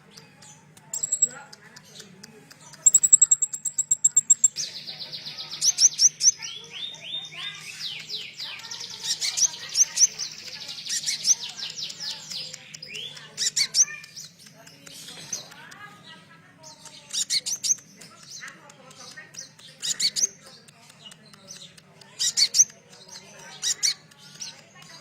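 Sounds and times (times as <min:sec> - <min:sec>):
songbird trilling and chirping: 0:00.0 - 0:25.0.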